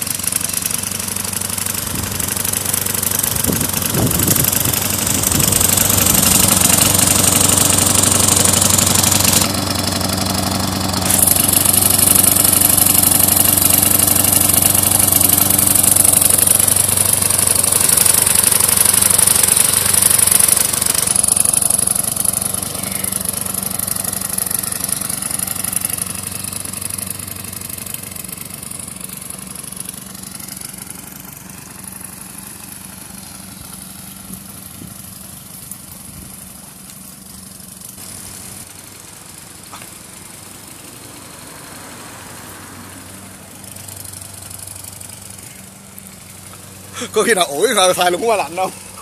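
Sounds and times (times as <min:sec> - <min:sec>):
lawnmower engine running: 0:00.0 - 0:49.0.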